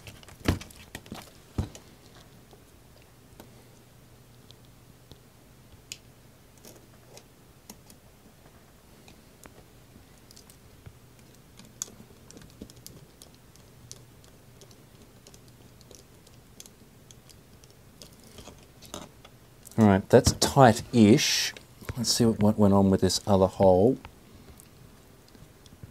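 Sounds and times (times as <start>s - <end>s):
faint low hum: 0.0s - 25.9s.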